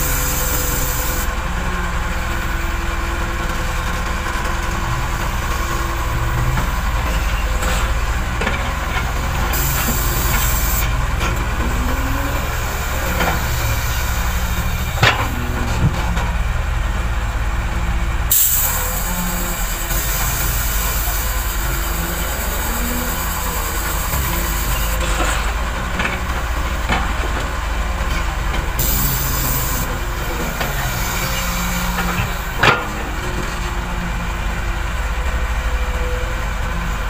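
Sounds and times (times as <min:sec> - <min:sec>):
heavy diesel machinery rumbling: 0:00.0 - 0:37.0.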